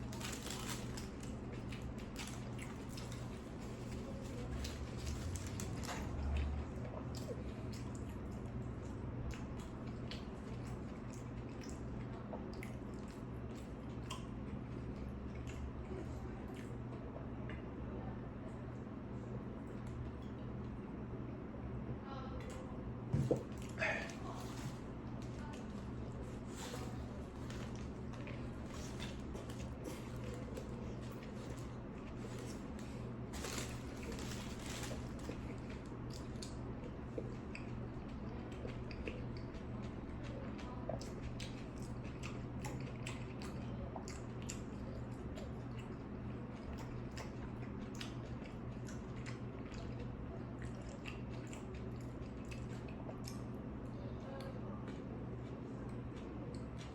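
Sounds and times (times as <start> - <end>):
steady low hum: 0.0 - 56.9
wet chewing mouth sounds: 0.1 - 17.6, 23.2 - 56.9.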